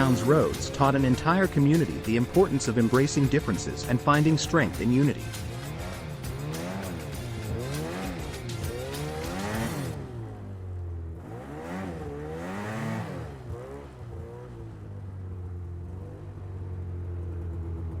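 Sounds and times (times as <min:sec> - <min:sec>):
motor engine revving: 0:00.0 - 0:18.0.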